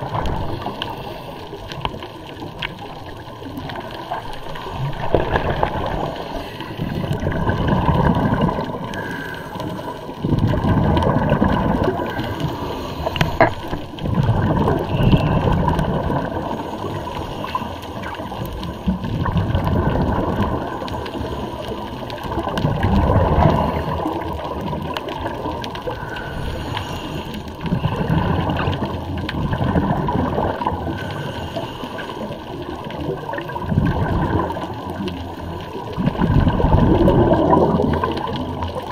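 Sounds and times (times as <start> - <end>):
underwater bubbles gurgling: 0.0 - 38.9.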